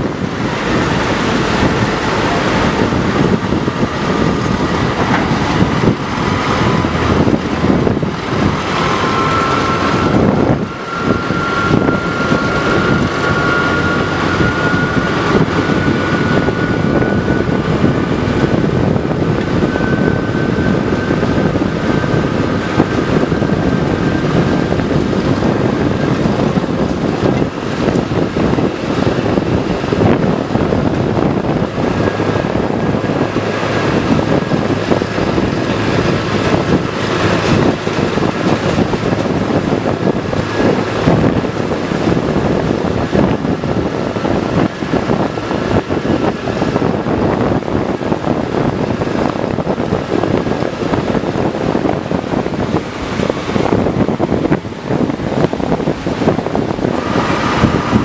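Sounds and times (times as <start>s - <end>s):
train running noise: 0.0s - 58.0s
water churning and splashing: 0.0s - 58.0s
wind on microphone: 0.0s - 58.0s.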